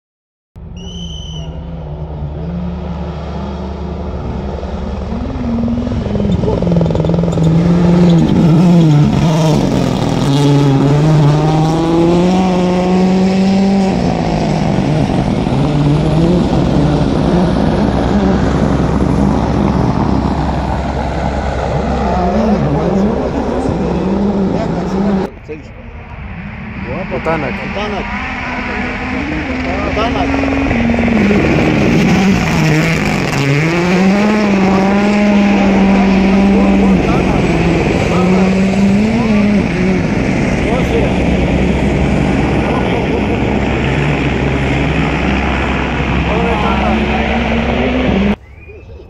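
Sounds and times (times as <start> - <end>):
rally car engine revving: 0.7 - 48.6.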